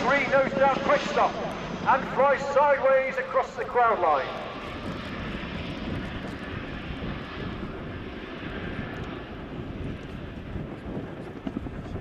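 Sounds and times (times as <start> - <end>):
helicopter rotors beating: 0.0 - 12.0
turbine engine noise: 0.0 - 12.0.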